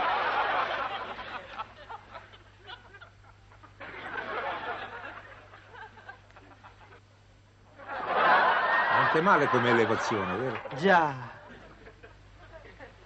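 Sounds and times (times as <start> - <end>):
audience laughing: 0.0 - 7.1, 7.8 - 13.0.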